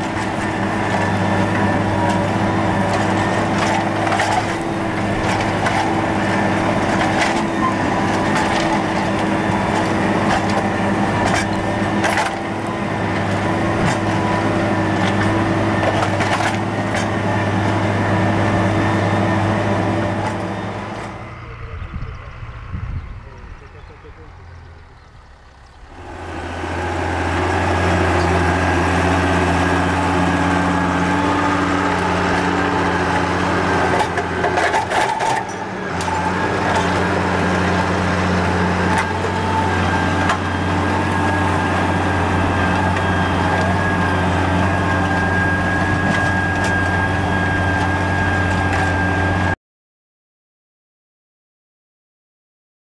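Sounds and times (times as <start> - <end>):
tractor diesel engine running: 0.0 - 49.6.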